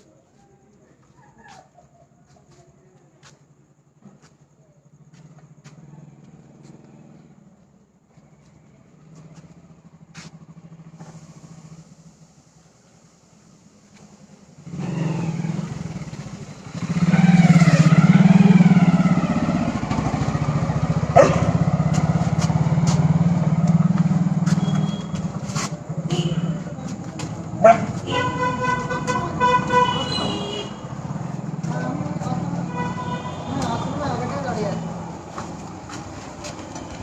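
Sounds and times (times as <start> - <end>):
vehicle engine running: 4.9 - 37.0.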